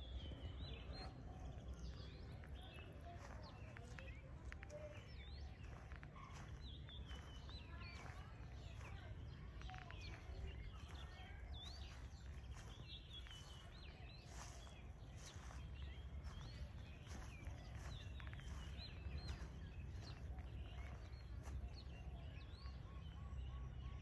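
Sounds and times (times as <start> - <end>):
birds chirping and singing: 0.0 - 24.0.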